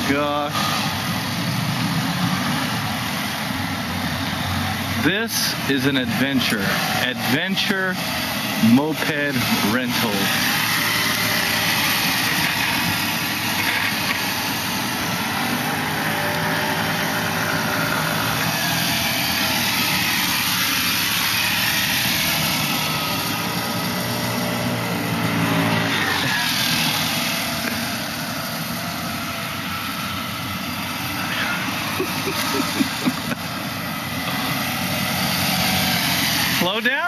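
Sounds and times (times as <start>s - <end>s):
moped engine running: 0.0s - 37.0s.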